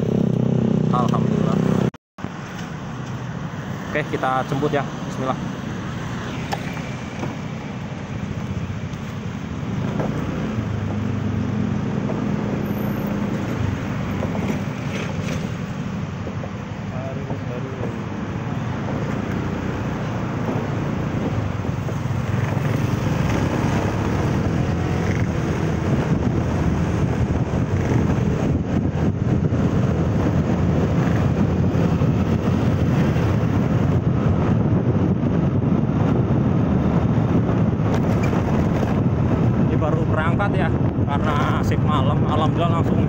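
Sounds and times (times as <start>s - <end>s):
road vehicle driving: 0.0s - 43.0s.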